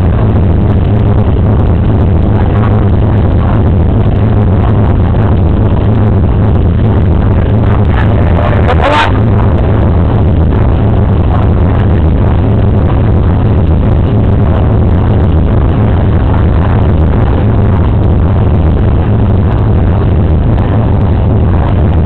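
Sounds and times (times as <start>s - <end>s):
loud crowd din: 0.0s - 22.0s.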